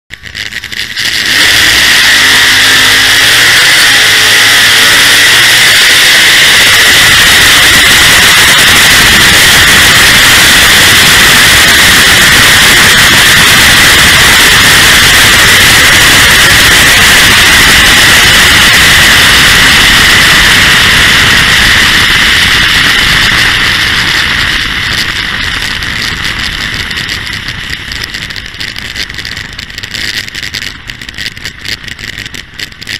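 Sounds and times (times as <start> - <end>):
loud distorted car engine: 0.1 - 32.9.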